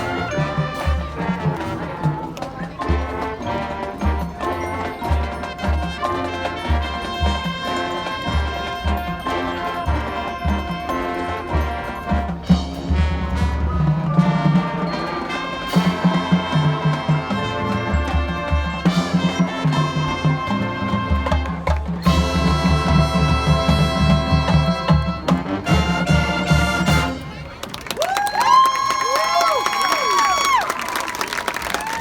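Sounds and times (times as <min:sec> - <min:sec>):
brass melody: 0:00.0 - 0:27.7
marching band playing: 0:00.0 - 0:32.0.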